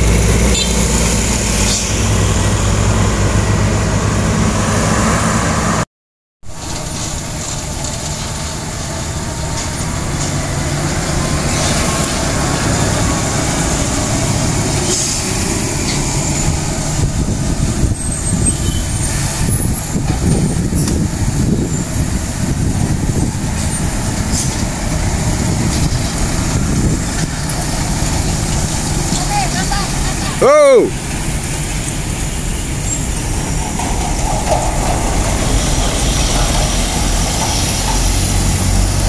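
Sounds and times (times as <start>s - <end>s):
truck diesel engines droning: 0.0s - 5.8s, 6.5s - 39.0s.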